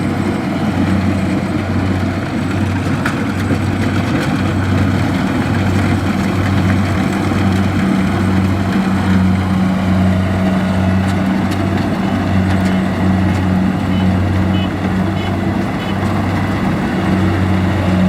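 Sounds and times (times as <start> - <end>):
combine harvester engine humming: 0.0 - 18.0.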